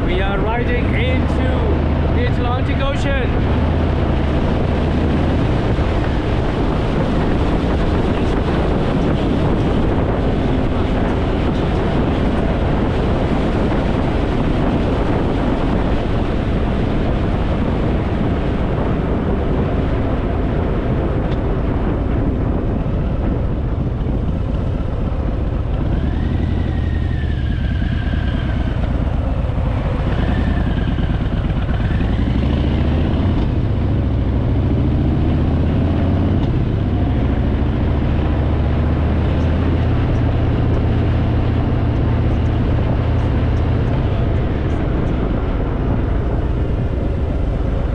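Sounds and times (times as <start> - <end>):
motorcycle engine running: 0.0 - 47.9
wind on microphone: 0.0 - 47.9.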